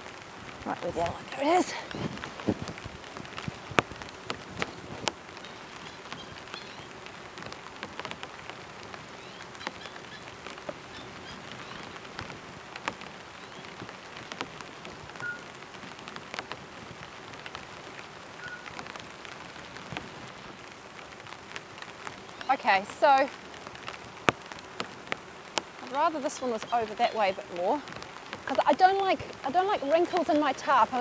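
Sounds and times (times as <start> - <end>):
rain on a tarp: 0.0 - 31.0.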